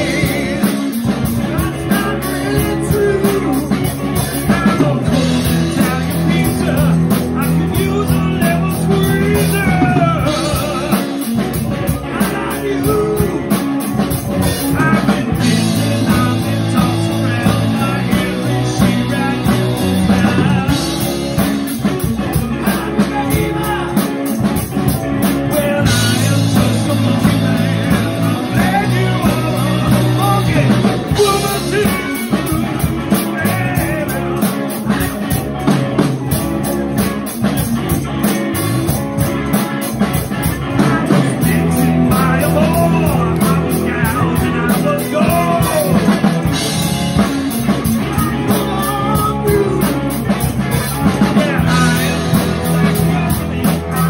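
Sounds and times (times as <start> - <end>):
drum kit beat: 0.0 - 54.0
electric bass: 0.0 - 54.0
electric guitar: 0.0 - 54.0
man singing: 0.0 - 54.0.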